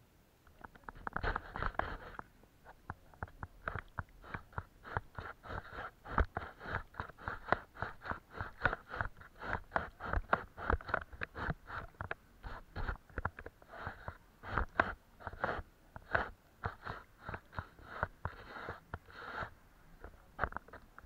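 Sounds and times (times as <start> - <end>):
paintbrush scratching on paper: 1.0 - 2.2, 3.6 - 19.6.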